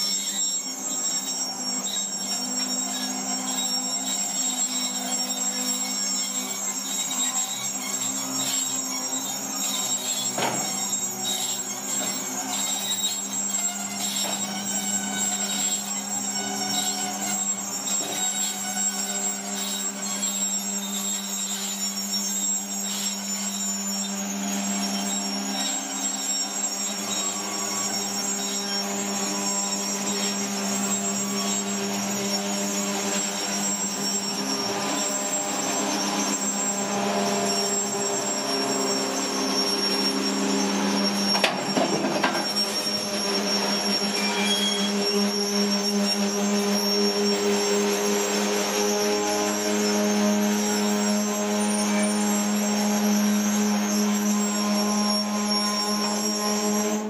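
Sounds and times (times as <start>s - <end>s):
train wheels squealing: 0.0s - 57.0s.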